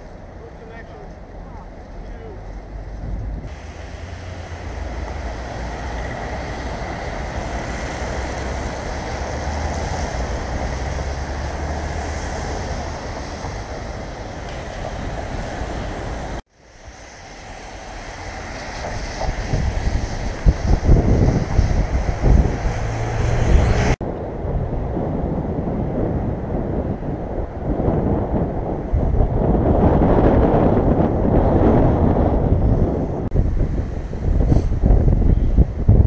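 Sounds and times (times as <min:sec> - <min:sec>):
road traffic: 0:00.0 - 0:36.0
wind on microphone: 0:02.6 - 0:36.0.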